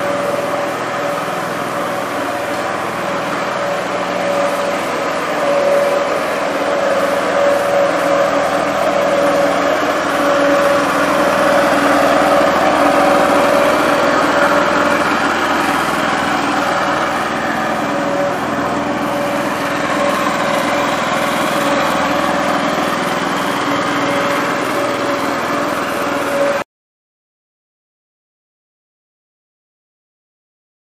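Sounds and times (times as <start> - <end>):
small petrol engine droning: 0.0 - 26.7.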